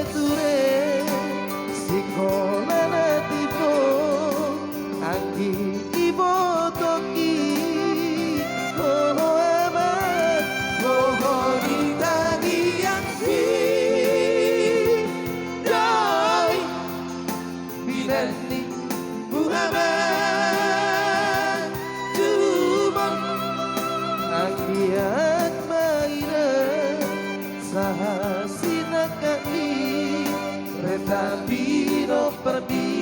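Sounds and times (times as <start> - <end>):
held accompaniment chords: 0.0 - 33.0
person singing with vibrato: 0.0 - 33.0.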